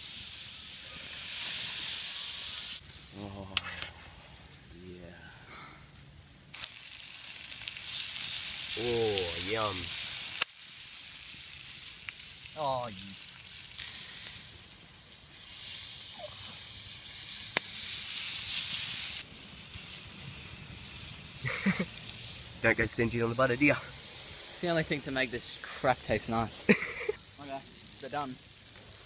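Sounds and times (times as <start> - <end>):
fish sizzling on hot plate: 0.0 - 4.7, 6.5 - 29.0.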